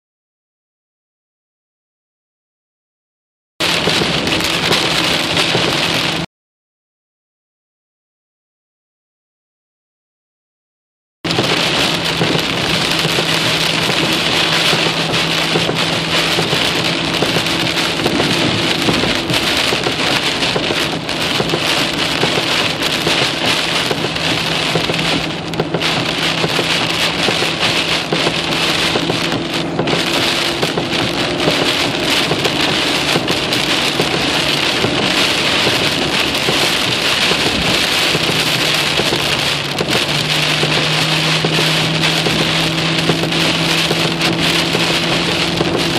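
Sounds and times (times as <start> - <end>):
heavy rain: 3.6 - 6.3, 11.3 - 45.9.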